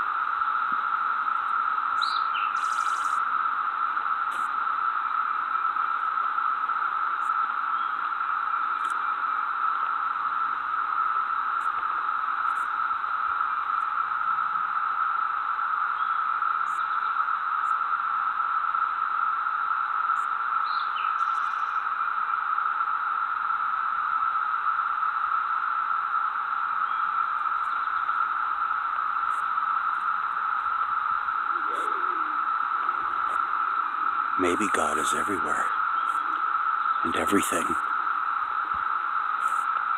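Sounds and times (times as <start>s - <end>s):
cicada chorus drone: 0.0s - 39.9s.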